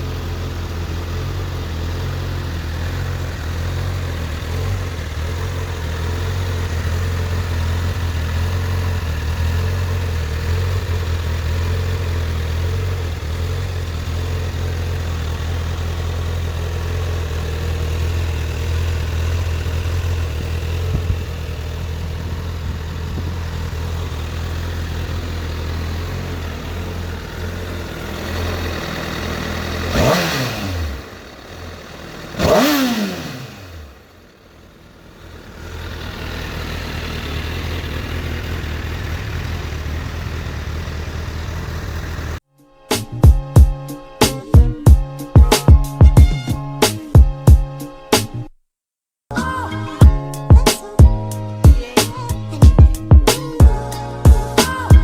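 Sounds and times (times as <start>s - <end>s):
motorcycle engine idling: 0.0s - 42.4s, 49.3s - 55.0s.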